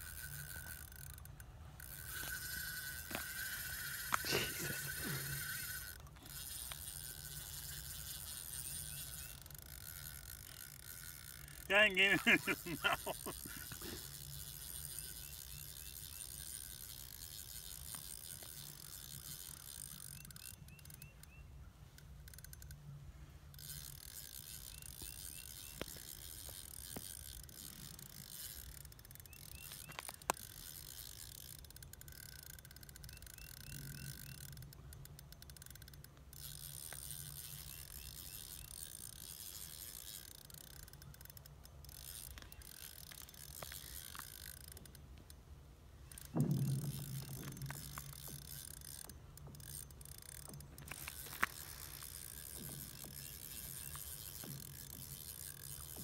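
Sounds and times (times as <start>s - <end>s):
fishing reel gears whirring: 0.0s - 56.0s.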